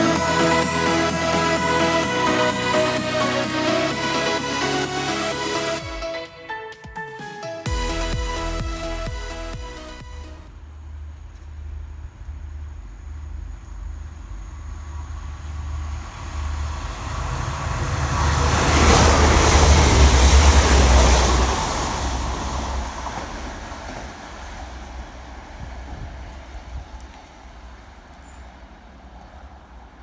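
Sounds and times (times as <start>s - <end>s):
diesel train passing: 0.0s - 6.6s, 7.6s - 26.6s.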